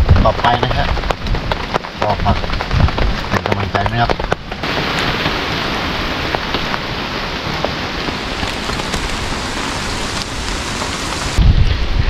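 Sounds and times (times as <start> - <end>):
raindrops ticking: 0.0 - 11.4
heavy rain falling: 0.0 - 12.0.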